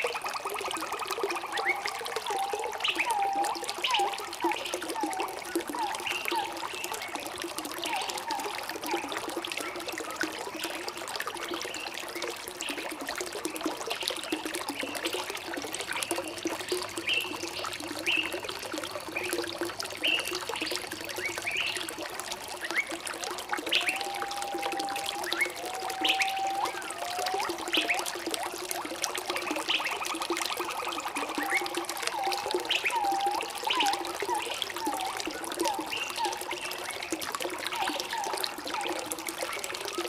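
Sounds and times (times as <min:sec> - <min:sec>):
water trickling and pouring: 0:00.0 - 0:40.0.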